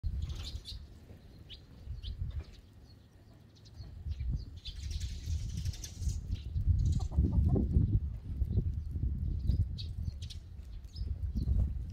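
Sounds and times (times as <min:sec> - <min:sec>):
sparrows chirping: 0:00.0 - 0:11.8.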